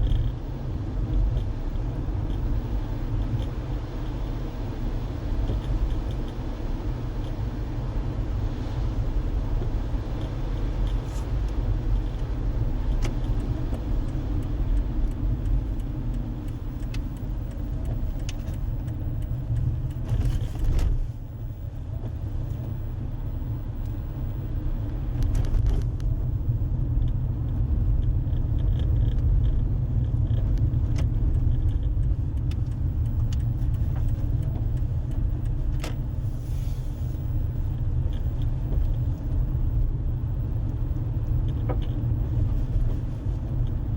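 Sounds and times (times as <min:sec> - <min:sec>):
car driving rumble: 0:00.0 - 0:43.9.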